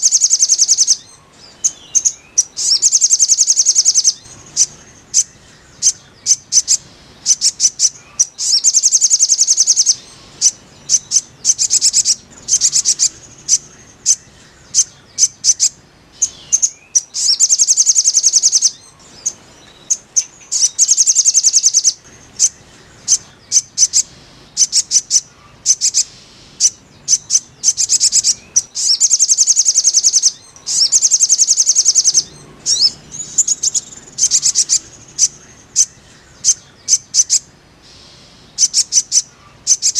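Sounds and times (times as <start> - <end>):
bird high-pitched trills: 0.0 - 39.9.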